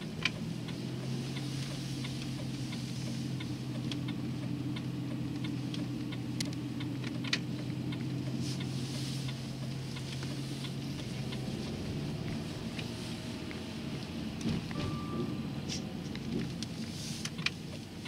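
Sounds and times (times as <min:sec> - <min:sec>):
car engine hum inside cabin: 0:00.0 - 0:18.0
turn signal ticking: 0:00.0 - 0:18.0.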